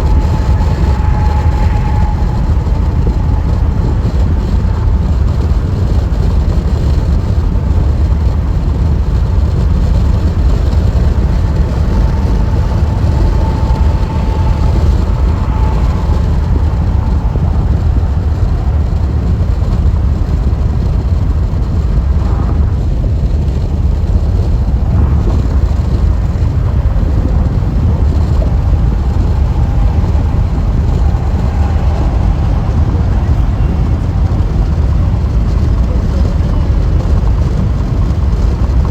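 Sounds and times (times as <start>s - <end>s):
faint whine: 0.0s - 38.9s
tyre and road rumble: 0.0s - 38.9s.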